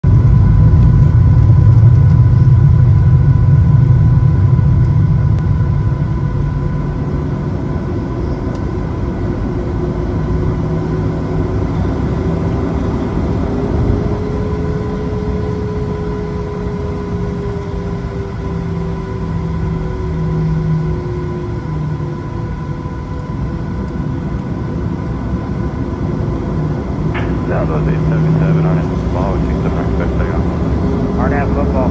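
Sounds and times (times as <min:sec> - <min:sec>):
airplane cabin rumble: 0:00.0 - 0:31.9
whining engine tone: 0:00.0 - 0:31.9.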